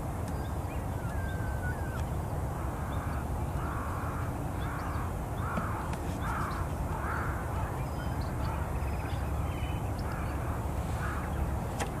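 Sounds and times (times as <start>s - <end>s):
bird cawing: 1.0s - 9.3s, 10.0s - 11.4s.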